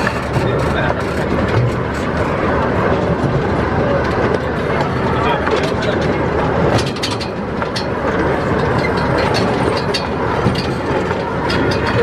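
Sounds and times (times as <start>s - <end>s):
sharp clicks of train wheels: 0.0s - 12.0s
small train rumbling on track: 0.0s - 12.0s.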